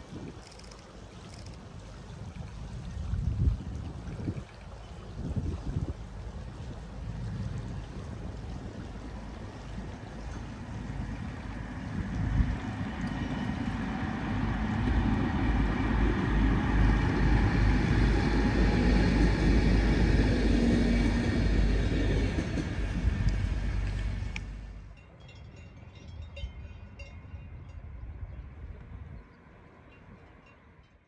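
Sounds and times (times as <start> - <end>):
diesel train rumbling past: 6.0 - 30.9.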